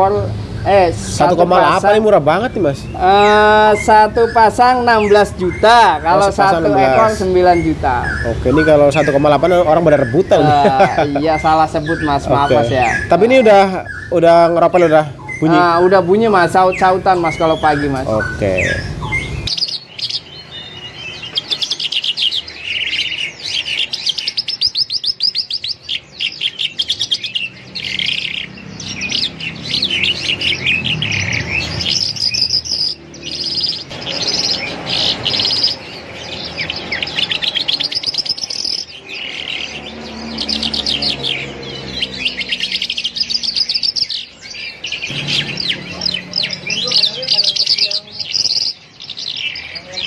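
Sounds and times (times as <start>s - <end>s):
songbirds chirping and trilling: 0.0s - 50.0s.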